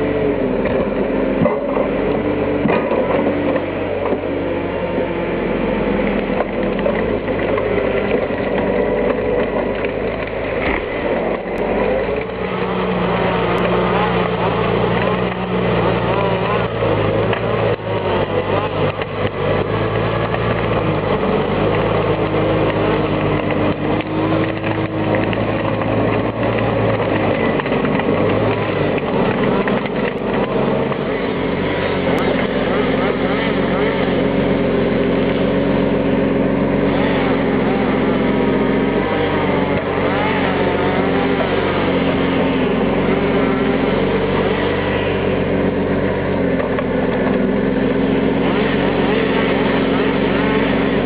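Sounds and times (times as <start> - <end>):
high steady whine: 0.0 - 51.0
tractor diesel engine running: 0.0 - 51.0.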